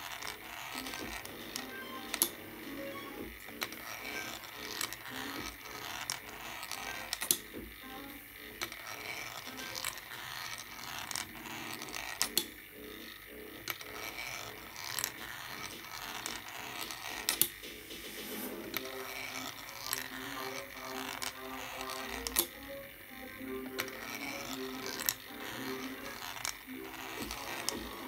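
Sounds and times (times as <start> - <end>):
sharp clicks of dropping balls: 0.0 - 18.0, 18.7 - 28.0
metal balls rolling and rattling: 0.0 - 28.0.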